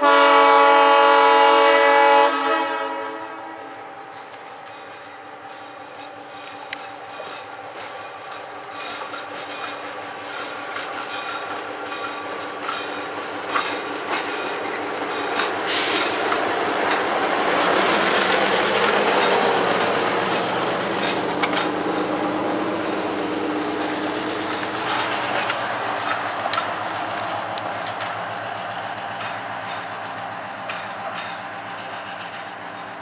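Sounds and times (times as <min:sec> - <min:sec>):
diesel locomotive engine running: 0:00.0 - 0:33.0
train wheels clicking over rail joints: 0:04.0 - 0:33.0.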